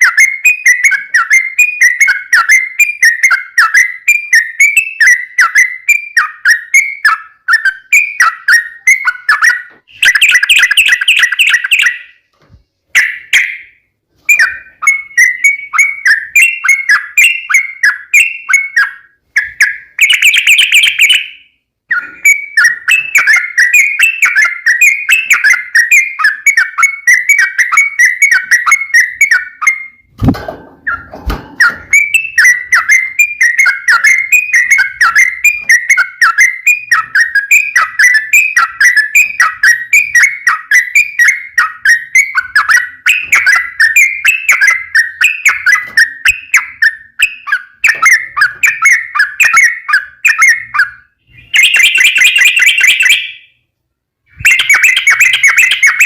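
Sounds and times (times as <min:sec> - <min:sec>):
bird chirping song: 0:00.0 - 0:56.0.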